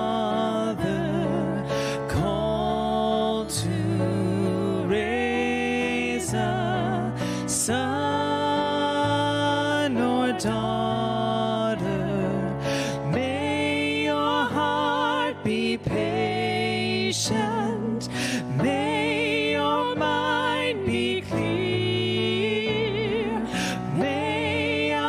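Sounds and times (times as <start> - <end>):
person singing with vibrato: 0.0 - 25.0.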